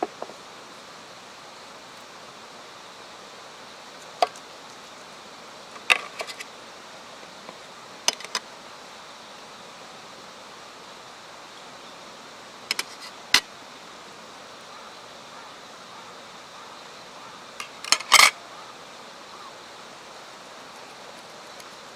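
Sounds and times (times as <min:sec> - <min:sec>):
steady outdoor hiss: 0:00.0 - 0:21.9.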